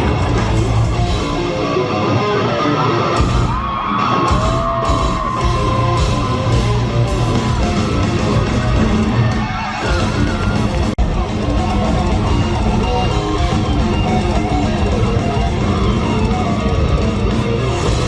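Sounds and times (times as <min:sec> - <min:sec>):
live metal band playing: 0:00.0 - 0:18.0.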